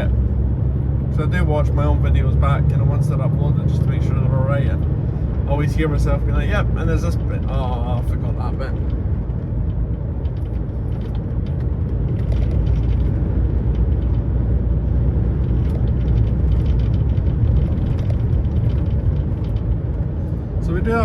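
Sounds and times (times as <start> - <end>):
lorry engine and road rumble: 0.0 - 21.0.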